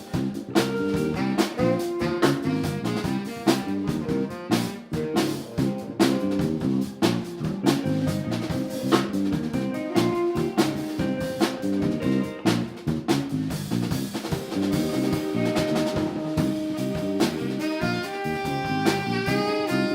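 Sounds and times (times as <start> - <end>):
bass guitar: 0.0 - 19.9
drum kit: 0.0 - 19.9
guitar: 0.0 - 19.9.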